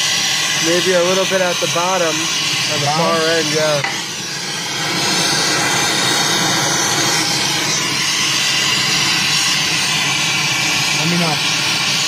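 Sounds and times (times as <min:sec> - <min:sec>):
brazing torch hissing: 0:00.0 - 0:12.0.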